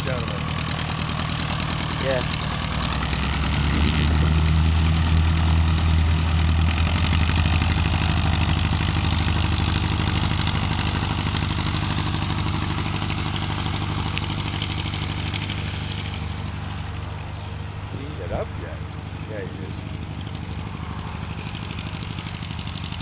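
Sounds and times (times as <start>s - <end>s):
aircraft engine idling: 0.0s - 23.0s.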